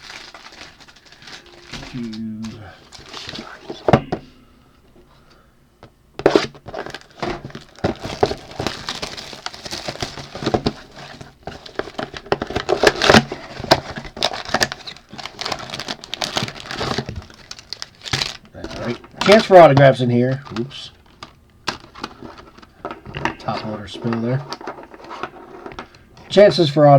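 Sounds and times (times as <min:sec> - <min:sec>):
plastic wrap crinkling: 0:00.0 - 0:04.1, 0:06.2 - 0:26.4.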